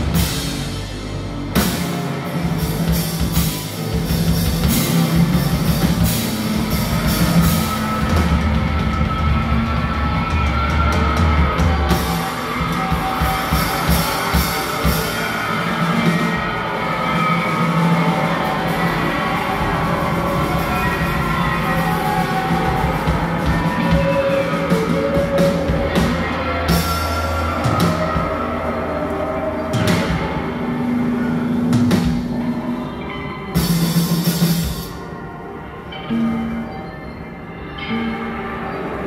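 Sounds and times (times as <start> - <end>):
drum kit: 0.0 - 35.2
bass: 0.0 - 39.0
electric guitar: 0.0 - 39.0.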